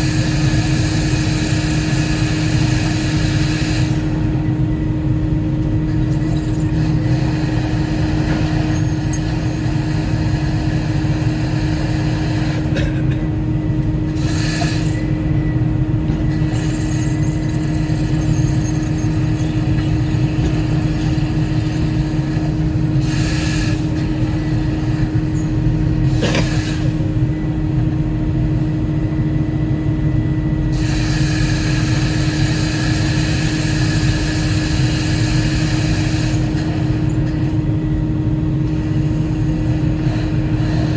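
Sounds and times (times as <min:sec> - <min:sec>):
hydraulic hissing: 0:00.0 - 0:04.7, 0:05.6 - 0:27.6, 0:30.7 - 0:37.7, 0:38.7 - 0:40.9
excavator diesel engine: 0:00.0 - 0:40.9.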